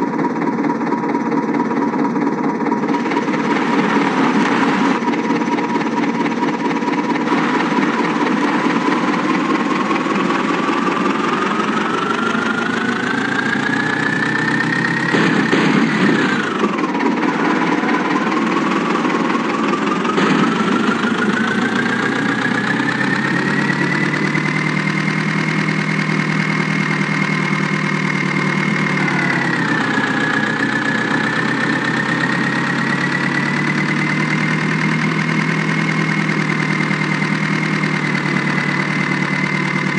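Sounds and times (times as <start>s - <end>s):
truck engine whining under load: 0.0s - 39.9s.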